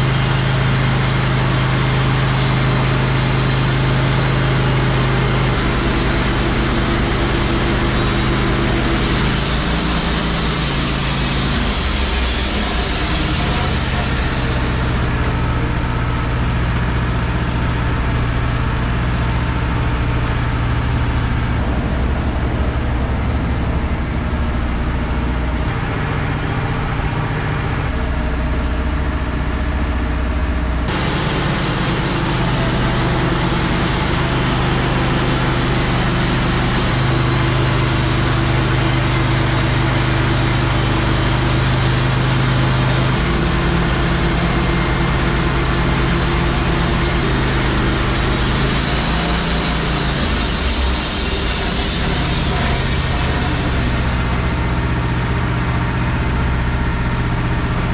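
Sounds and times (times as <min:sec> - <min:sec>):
band sawmill cutting log: 0:00.0 - 0:23.5, 0:30.9 - 0:57.9.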